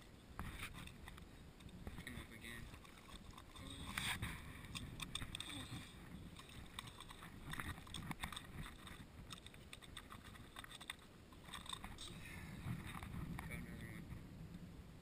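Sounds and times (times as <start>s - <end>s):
wind rumble on microphone: 0.0s - 10.6s, 11.4s - 15.0s.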